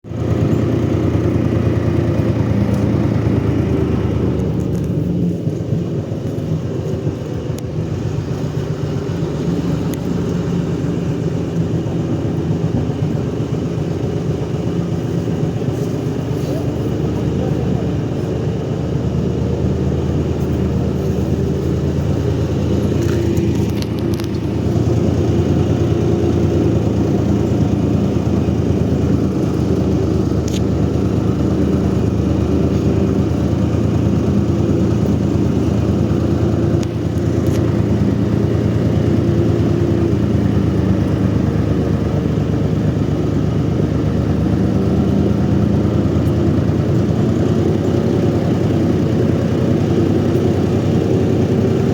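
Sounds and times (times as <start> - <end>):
engine droning: 0.0 - 51.9.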